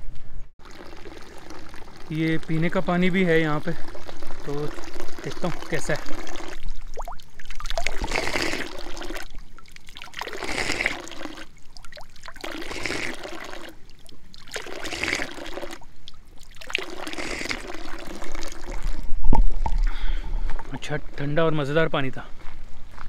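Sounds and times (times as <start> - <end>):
water splashing into stone basin: 0.6 - 19.9.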